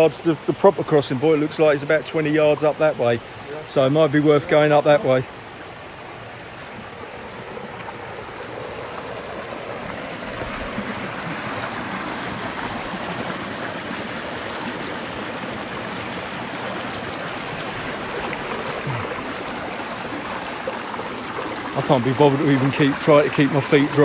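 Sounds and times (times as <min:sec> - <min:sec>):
stream of running water: 0:00.0 - 0:24.0.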